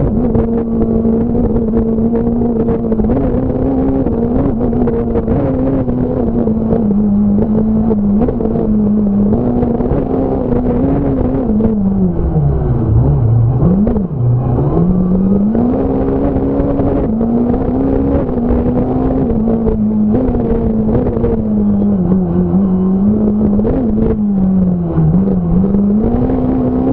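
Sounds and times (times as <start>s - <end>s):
rally car engine revving: 0.0s - 26.9s.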